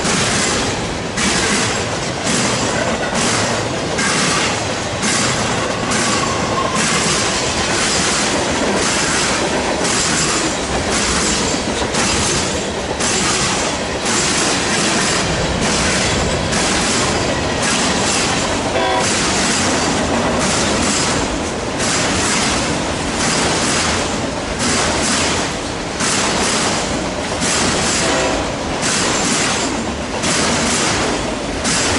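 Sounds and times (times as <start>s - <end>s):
freight train rolling past: 0.0s - 31.9s
wheels clacking over rail joints: 0.0s - 31.9s.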